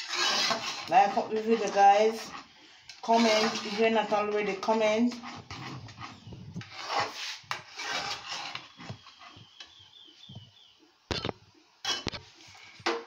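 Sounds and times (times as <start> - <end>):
metal spoon scraping a pot: 0.0 - 9.6, 11.2 - 13.0.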